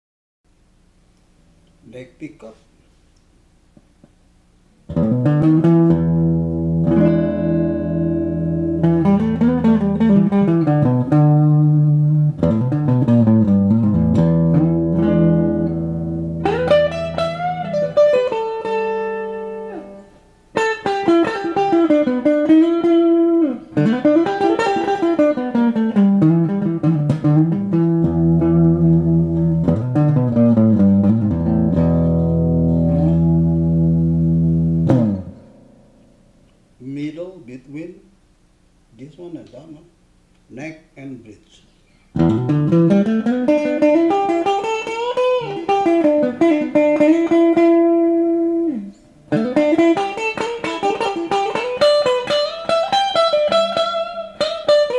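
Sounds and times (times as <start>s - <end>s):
clean electric guitar playing: 4.9s - 37.1s, 42.1s - 54.9s.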